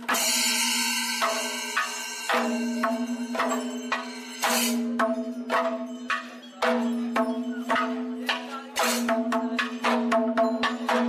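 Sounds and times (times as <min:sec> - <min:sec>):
sharp percussion strikes: 0:00.0 - 0:11.0.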